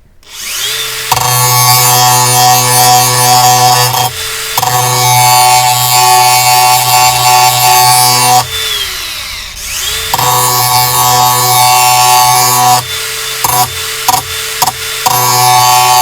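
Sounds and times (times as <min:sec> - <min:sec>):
angle grinder grinding steel: 0:00.2 - 0:16.0.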